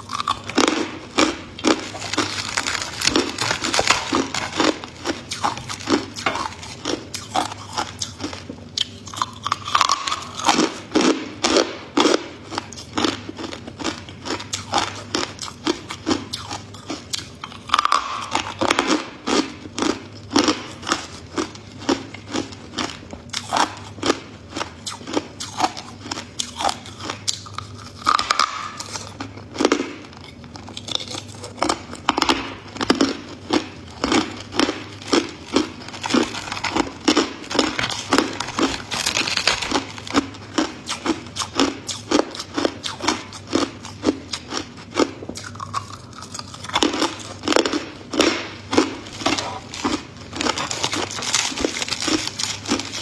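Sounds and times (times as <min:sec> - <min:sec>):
ice crunching between teeth: 0:00.0 - 0:53.0.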